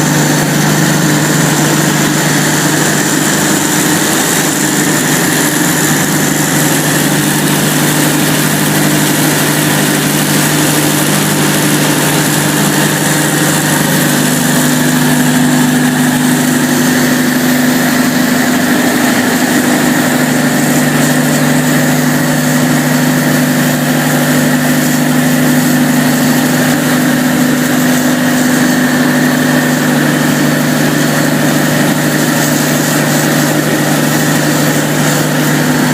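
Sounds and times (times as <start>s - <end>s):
diesel generator droning: 0.0s - 35.9s.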